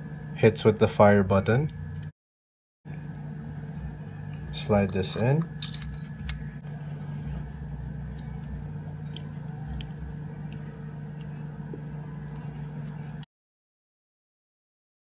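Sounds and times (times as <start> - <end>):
low background hum: 0.0 - 2.1, 2.9 - 13.3.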